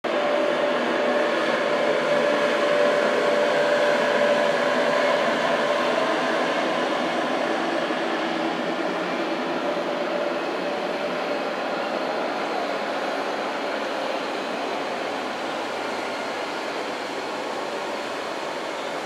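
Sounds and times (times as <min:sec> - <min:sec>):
diesel railcar engine drone: 0:00.0 - 0:19.0.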